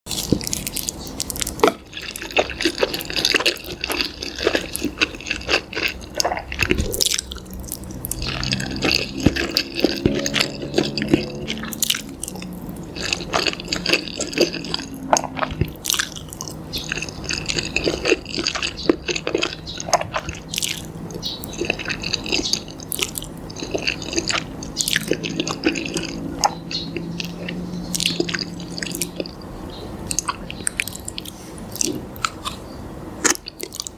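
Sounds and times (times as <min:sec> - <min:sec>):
slime squelching: 0:00.1 - 0:32.6.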